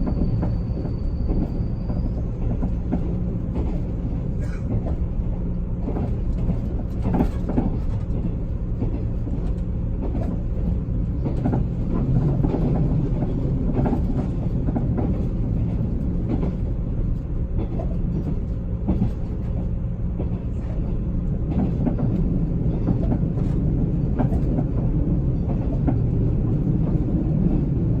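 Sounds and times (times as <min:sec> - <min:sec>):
train running gear rumble: 0:00.0 - 0:28.0.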